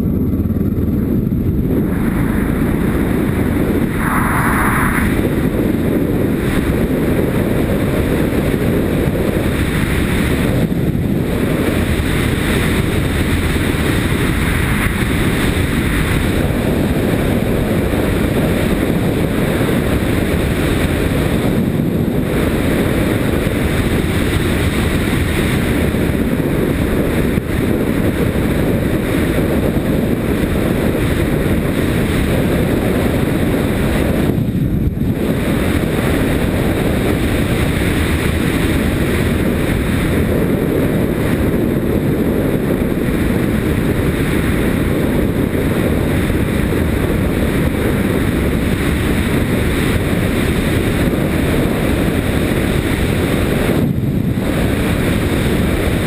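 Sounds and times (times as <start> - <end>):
motorcycle engine and tyres rumbling: 0.0 - 56.0
wind buffeting camera: 0.0 - 56.0.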